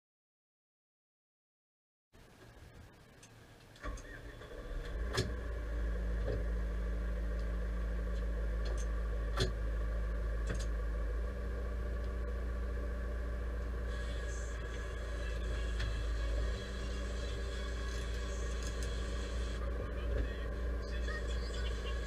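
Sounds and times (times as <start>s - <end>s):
tractor engine idling: 3.8s - 22.0s.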